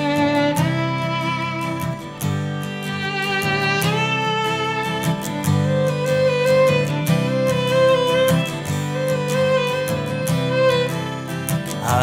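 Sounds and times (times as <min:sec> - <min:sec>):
guitar accompaniment: 0:00.0 - 0:12.0
violin melody: 0:00.0 - 0:12.0.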